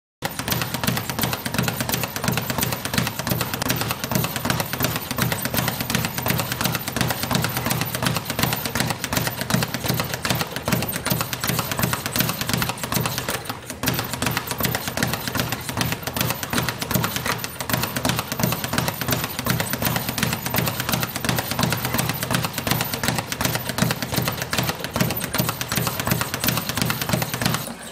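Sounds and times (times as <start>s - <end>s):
speed bag being punched: 0.2s - 27.9s.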